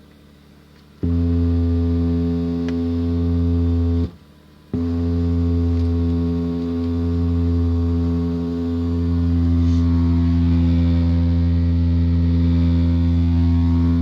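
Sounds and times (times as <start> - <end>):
low-pitched hum from car radio: 0.0 - 14.0.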